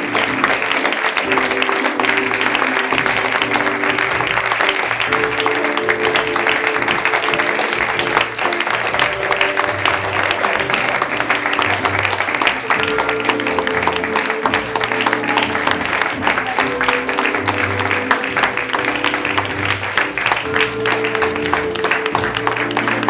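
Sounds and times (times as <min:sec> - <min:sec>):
audience applauding: 0:00.0 - 0:23.0
music with pulsing bass: 0:01.2 - 0:23.0.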